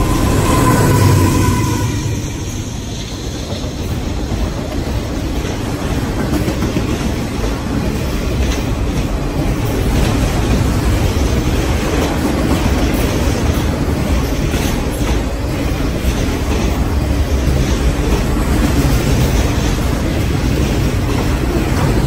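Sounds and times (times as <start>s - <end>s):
train wheels rumbling on rail: 0.0s - 22.0s
wheels clicking over rail joints: 3.4s - 22.0s.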